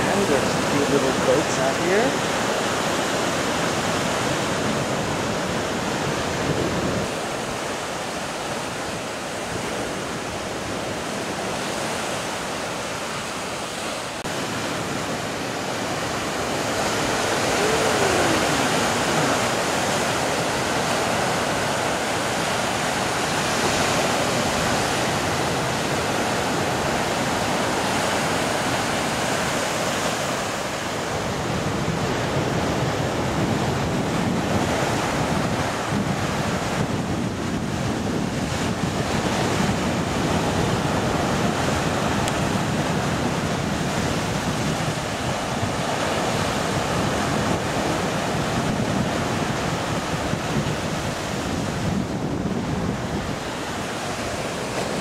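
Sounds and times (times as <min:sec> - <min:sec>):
waves breaking on rocks: 0:00.0 - 0:55.0.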